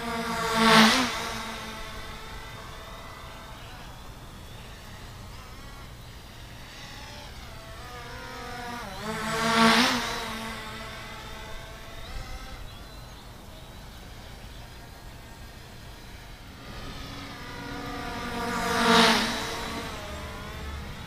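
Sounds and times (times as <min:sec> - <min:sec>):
drone propellers buzzing: 0:00.0 - 0:21.0.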